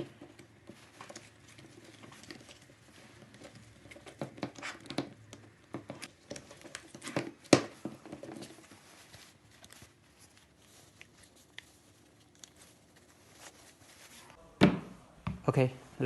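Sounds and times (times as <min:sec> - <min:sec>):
rubber rubbing: 0:00.0 - 0:14.4.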